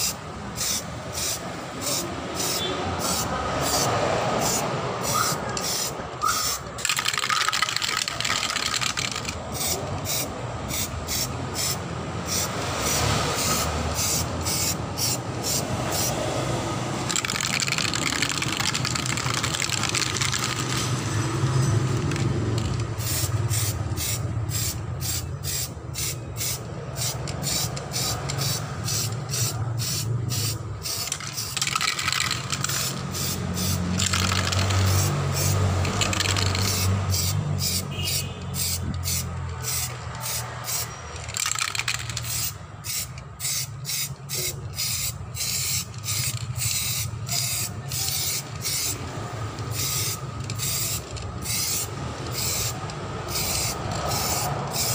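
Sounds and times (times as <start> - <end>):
aerosol spray can hissing: 0.0 - 16.2, 22.6 - 40.9, 41.5 - 49.0, 49.6 - 54.9.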